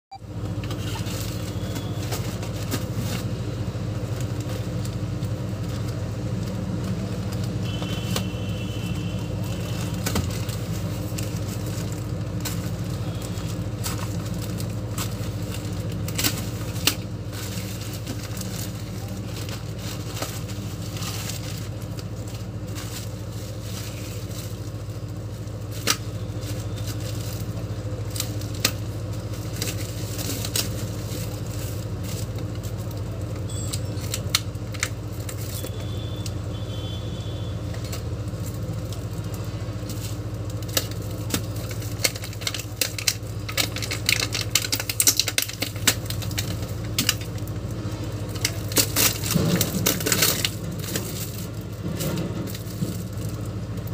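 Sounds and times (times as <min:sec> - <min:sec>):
plastic packaging crinkling: 0:00.2 - 0:53.9.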